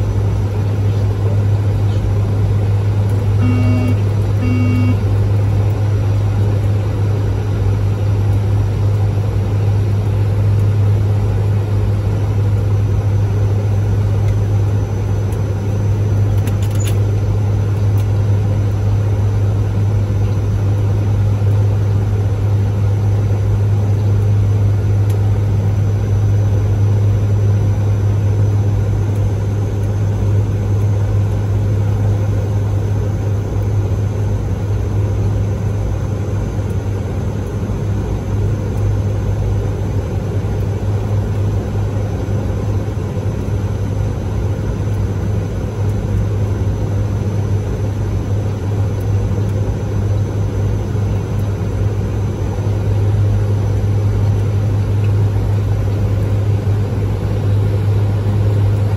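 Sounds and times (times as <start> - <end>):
turboprop engine hum: 0.0 - 58.9.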